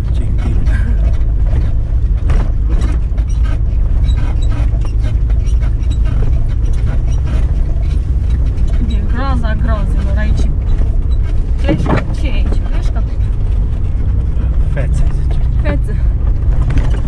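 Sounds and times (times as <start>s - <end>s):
vehicle engine and tyres rumbling: 0.0s - 17.0s
vehicle knocks and rattles: 0.0s - 17.0s.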